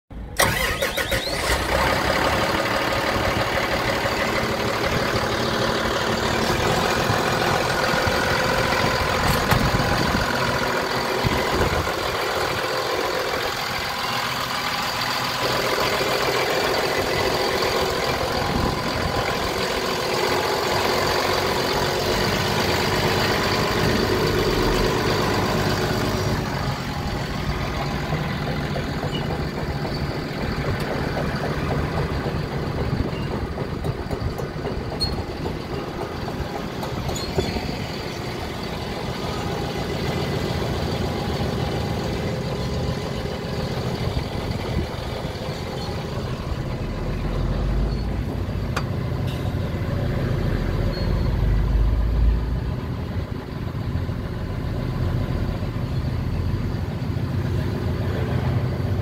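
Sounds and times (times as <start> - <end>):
diesel engine running: 0.1 - 59.0.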